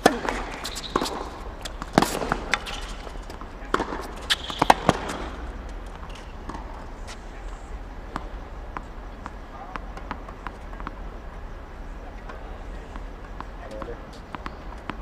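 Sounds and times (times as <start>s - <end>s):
tennis balls struck with rackets: 0.0s - 11.6s, 12.2s - 15.0s
tennis balls bouncing on court: 0.0s - 15.0s.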